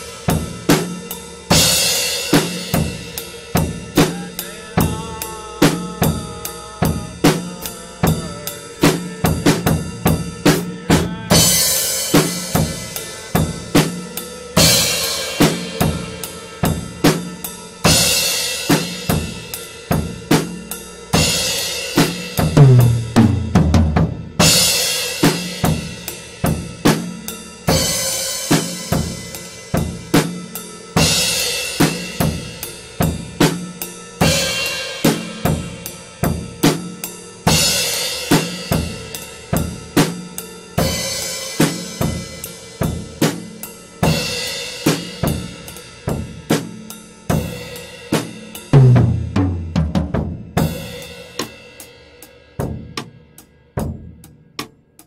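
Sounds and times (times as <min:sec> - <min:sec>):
drum kit beat: 0:00.0 - 0:55.0.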